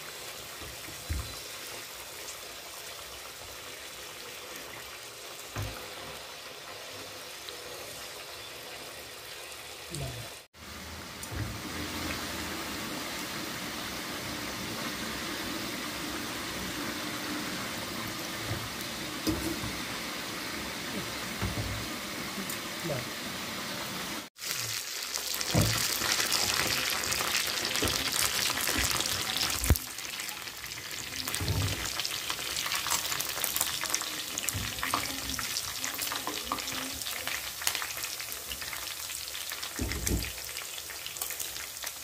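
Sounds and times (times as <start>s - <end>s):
chicken deep-frying in oil: 0.0s - 42.0s.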